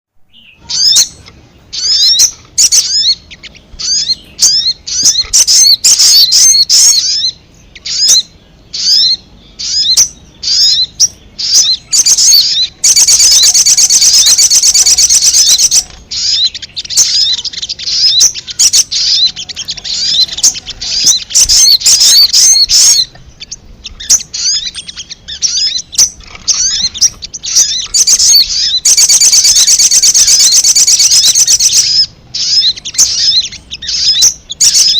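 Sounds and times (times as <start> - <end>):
young birds chirping: 0.2 - 34.9.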